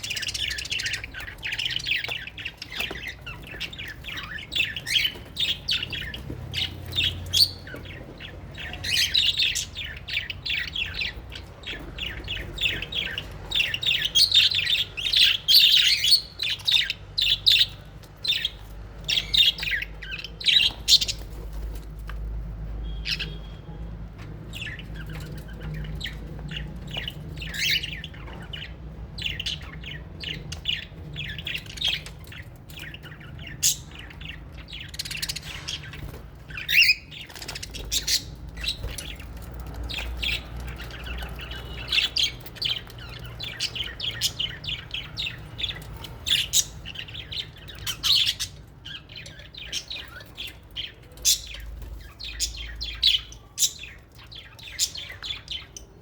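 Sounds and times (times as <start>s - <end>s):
parrots chirping and squawking: 0.0s - 56.0s.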